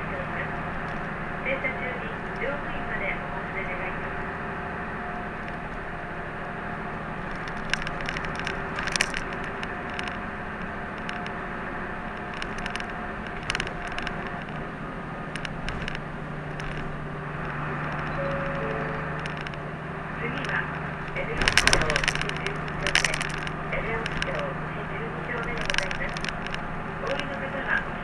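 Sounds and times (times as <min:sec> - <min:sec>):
bus engine hum: 0:00.0 - 0:28.0
rattling clicks in bus cabin: 0:00.0 - 0:28.0
road noise: 0:00.0 - 0:28.0.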